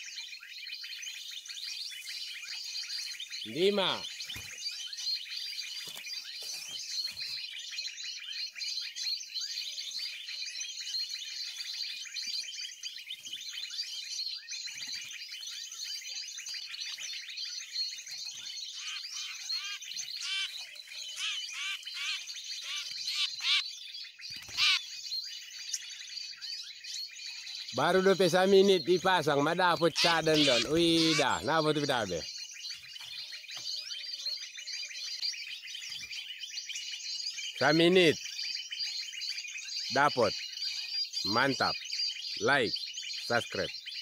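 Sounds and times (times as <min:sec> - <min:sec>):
recorded bird chirping: 0:00.0 - 0:44.0.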